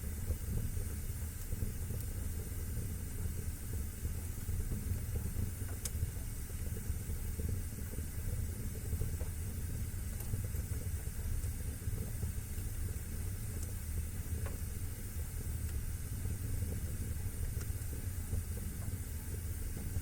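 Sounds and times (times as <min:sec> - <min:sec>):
fire burning in fireplace: 0:00.0 - 0:20.0
fire crackles and pop: 0:00.0 - 0:20.0.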